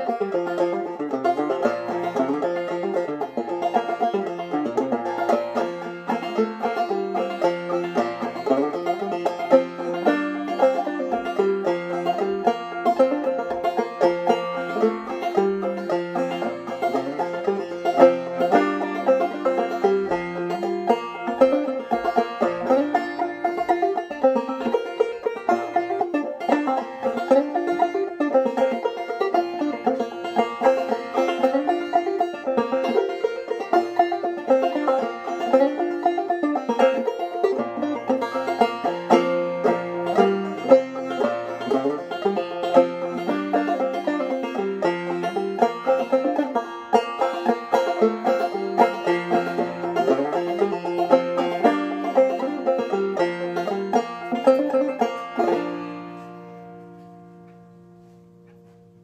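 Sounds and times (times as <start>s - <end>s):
clawhammer banjo playing: 0.0s - 59.0s.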